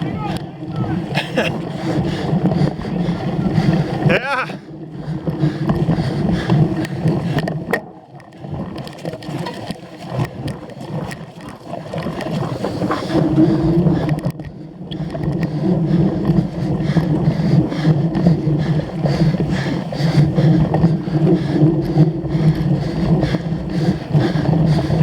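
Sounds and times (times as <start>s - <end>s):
bicycle tyres rumbling off-road: 0.0s - 25.0s
bike rattling and clattering: 0.0s - 25.0s.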